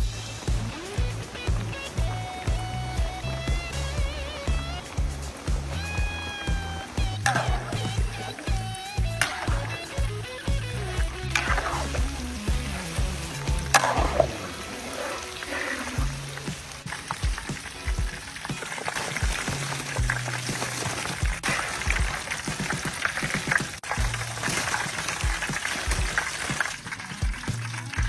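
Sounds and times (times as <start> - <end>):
background music with bass: 0.0 - 28.0
food sizzling in hot oil: 0.0 - 28.0.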